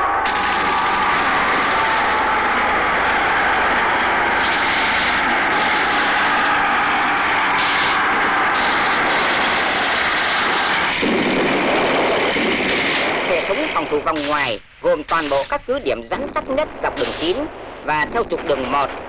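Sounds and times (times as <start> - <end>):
battle noise: 0.0 - 19.0.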